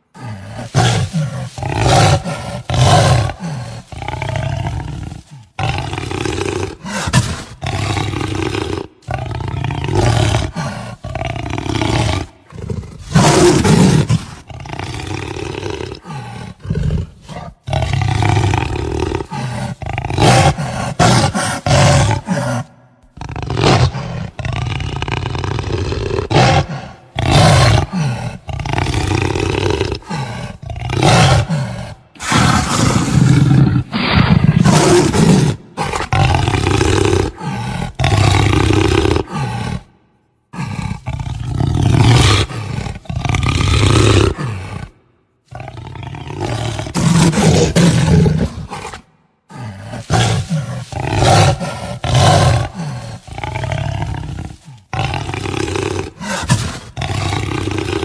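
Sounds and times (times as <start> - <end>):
jaguar growling and roaring: 0.0 - 58.0.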